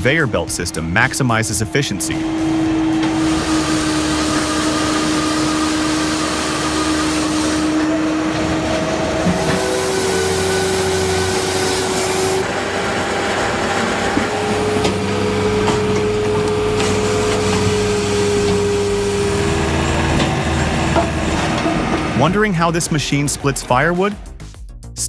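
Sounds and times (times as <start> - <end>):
machine hum and whine: 0.0 - 23.8
wood being sawn: 0.0 - 24.2.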